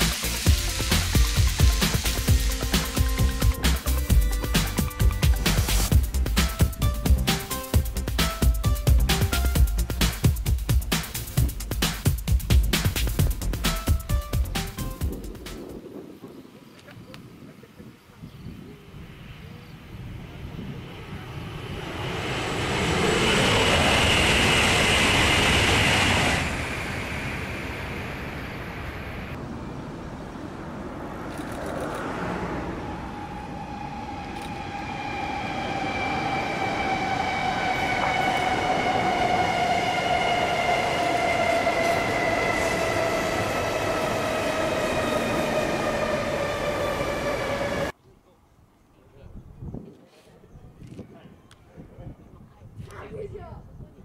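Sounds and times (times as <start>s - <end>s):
train rushing past: 0.0s - 16.0s, 19.1s - 48.0s
train approaching with whine: 0.0s - 16.1s, 18.6s - 48.0s.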